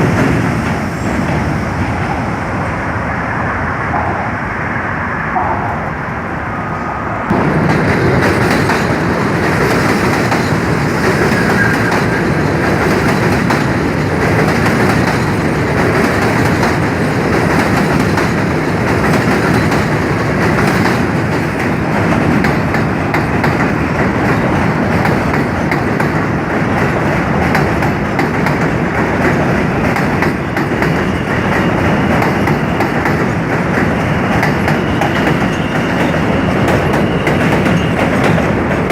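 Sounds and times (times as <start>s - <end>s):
subway train rumbling past: 0.0s - 38.9s.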